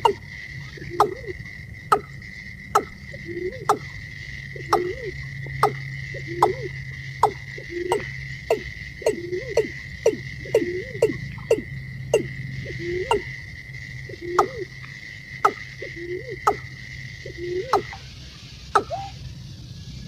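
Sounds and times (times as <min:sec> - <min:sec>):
bird calling with falling notes: 0:00.0 - 0:02.2, 0:02.8 - 0:13.3, 0:14.0 - 0:20.0
steady high whine: 0:00.0 - 0:20.0.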